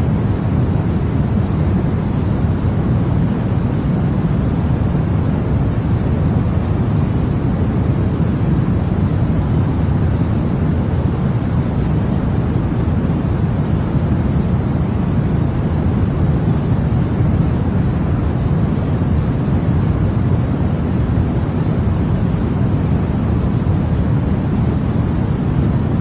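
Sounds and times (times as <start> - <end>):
deep white noise: 0.0 - 26.0.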